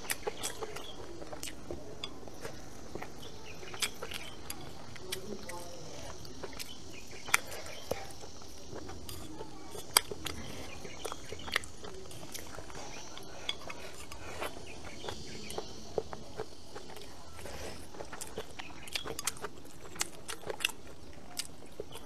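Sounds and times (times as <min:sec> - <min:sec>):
crickets humming: 0:00.0 - 0:22.0.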